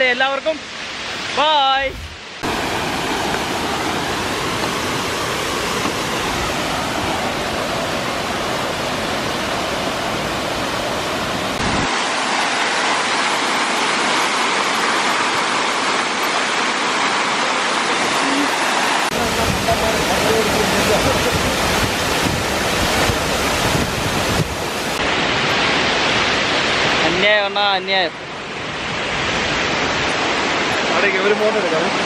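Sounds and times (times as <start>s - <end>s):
waterfall roaring: 0.0s - 32.0s.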